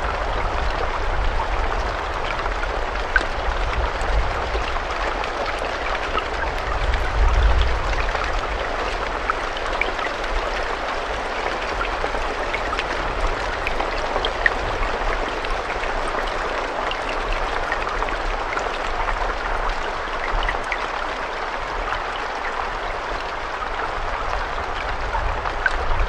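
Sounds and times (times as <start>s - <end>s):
raindrops ticking: 0.0s - 26.0s
rainfall hiss: 0.0s - 26.0s.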